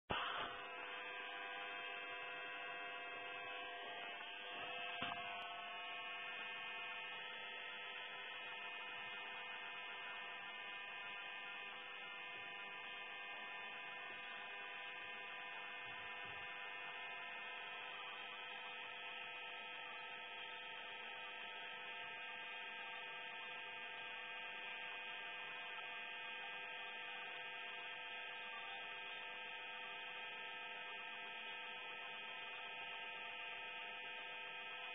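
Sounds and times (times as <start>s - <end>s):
electrical hum of pitched tones: 0.1s - 34.9s.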